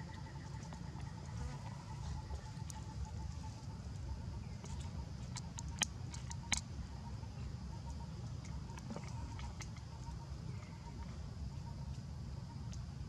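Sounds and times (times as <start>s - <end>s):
faint high hum: 0.0s - 13.0s
low outdoor rumble: 0.0s - 13.0s.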